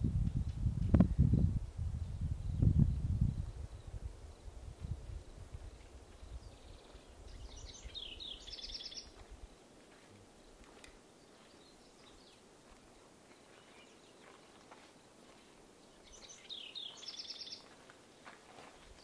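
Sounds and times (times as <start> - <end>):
faint forest background: 0.0 - 19.0
songbird chirping: 2.0 - 19.0.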